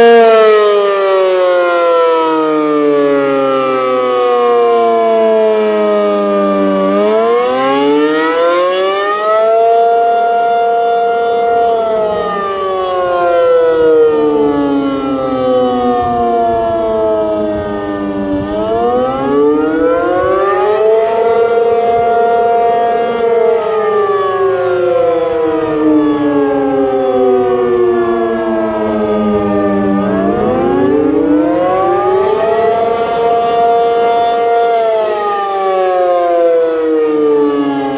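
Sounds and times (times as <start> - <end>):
tornado warning siren wailing: 0.0 - 37.9.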